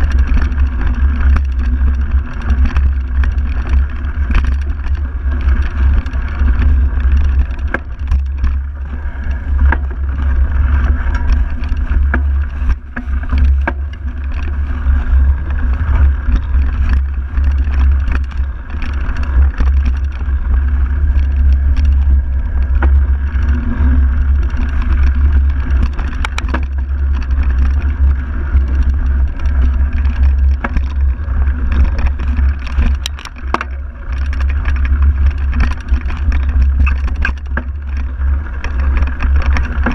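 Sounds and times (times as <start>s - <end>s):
bike clicks and rattles: 0.0s - 39.9s
wind buffeting microphone: 0.0s - 39.9s.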